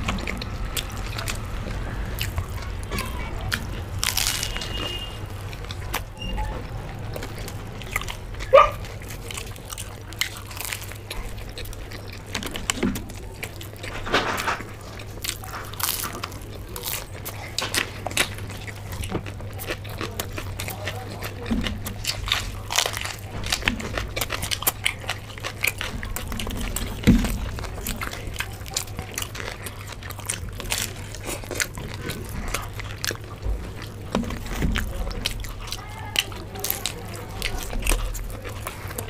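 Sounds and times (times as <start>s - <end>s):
food crunching while chewing: 0.0s - 39.0s
steady low hum: 0.0s - 39.0s.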